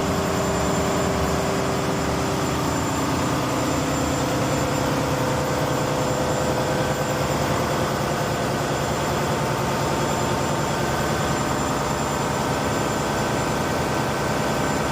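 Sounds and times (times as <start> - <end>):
steady whining tones: 0.0 - 14.8
engine drone: 0.0 - 14.9.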